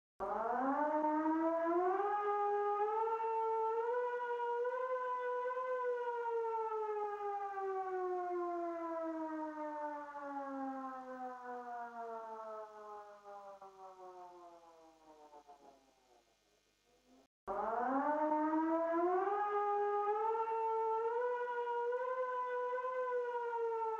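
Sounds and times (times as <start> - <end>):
civil defense siren winding down: 0.2 - 15.7, 17.5 - 23.9.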